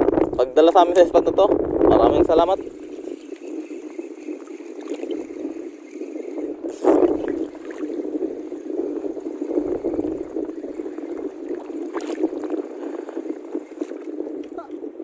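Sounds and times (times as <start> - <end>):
water sloshing against boat hull: 2.6 - 14.8.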